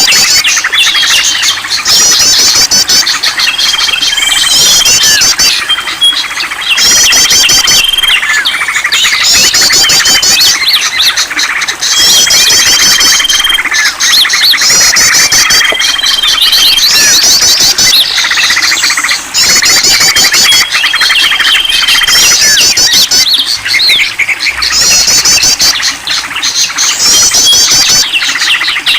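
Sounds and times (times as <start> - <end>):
bird chirps: 0.0 - 28.9
high bird trills: 0.0 - 28.9.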